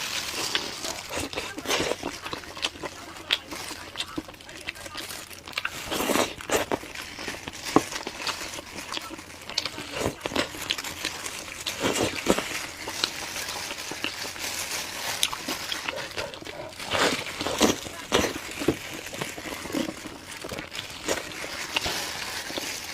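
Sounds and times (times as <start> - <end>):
person chewing noisily: 0.0 - 22.9.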